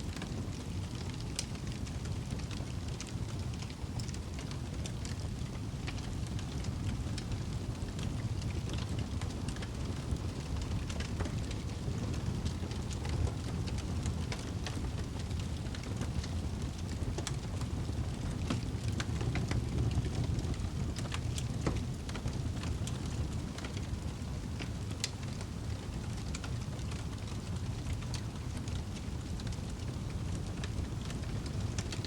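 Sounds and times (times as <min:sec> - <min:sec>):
fire burning in fireplace: 0:00.0 - 0:32.0.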